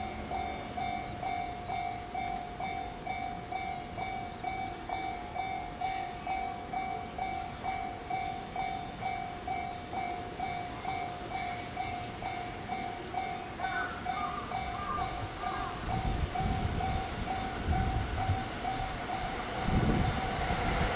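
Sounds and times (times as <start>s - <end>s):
level crossing warning bell: 0.0s - 20.9s.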